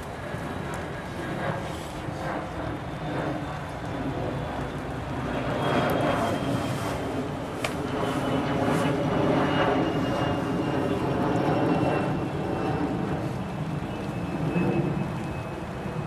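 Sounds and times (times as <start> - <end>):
jet airplane passing overhead: 0.0 - 16.0.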